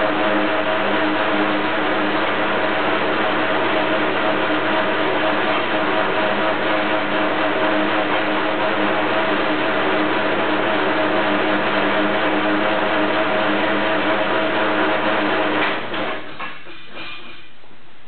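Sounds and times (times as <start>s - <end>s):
wire stripping machine humming: 0.0s - 17.4s.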